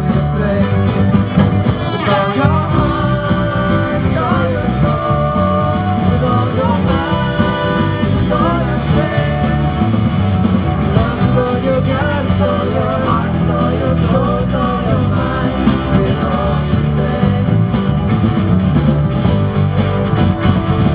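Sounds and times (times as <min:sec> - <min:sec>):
person singing: 0:00.0 - 0:10.1, 0:10.9 - 0:17.8
bass: 0:00.0 - 0:20.9
guitar: 0:00.0 - 0:20.9
live rock band: 0:00.0 - 0:20.9.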